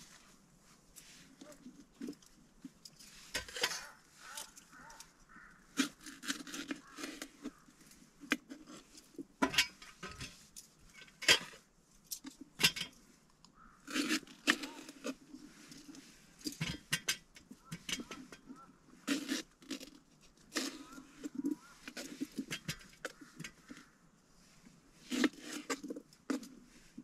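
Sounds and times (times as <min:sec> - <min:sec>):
scraping and handling sounds: 0:00.0 - 0:27.0.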